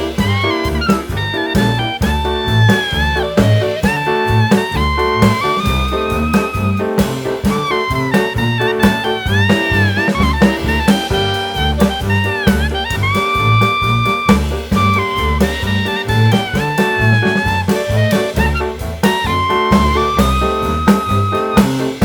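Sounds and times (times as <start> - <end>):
upbeat jazz music with horn: 0.0 - 22.0.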